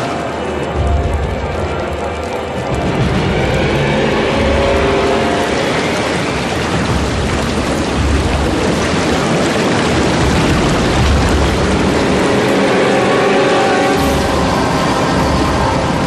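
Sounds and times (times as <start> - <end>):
low rumbles: 0.0 - 16.0
water swirling and churning: 0.0 - 16.0.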